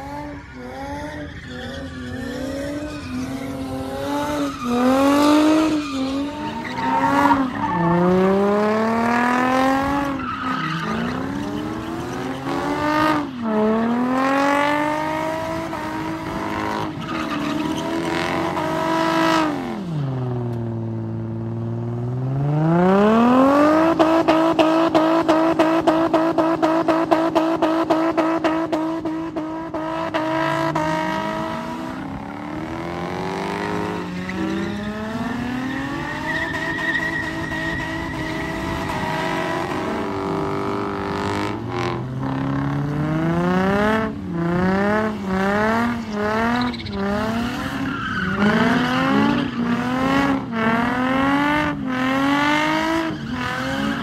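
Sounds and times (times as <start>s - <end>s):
car engines revving: 0.0s - 54.0s.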